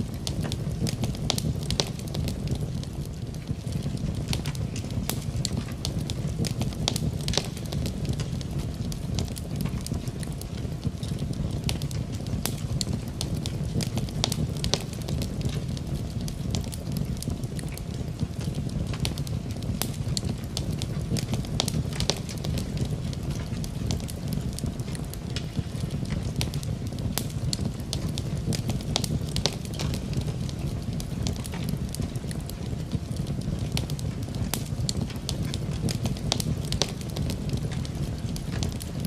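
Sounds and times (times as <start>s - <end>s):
low rumble of fire: 0.0s - 39.0s
wood fire crackling: 0.0s - 39.0s.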